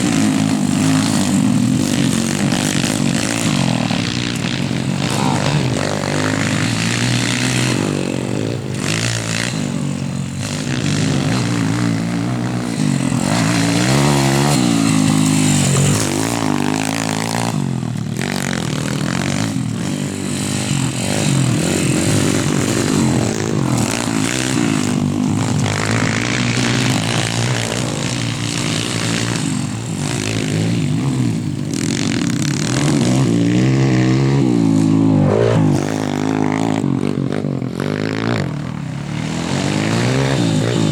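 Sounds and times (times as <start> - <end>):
motorbike engine revving: 0.0 - 40.9.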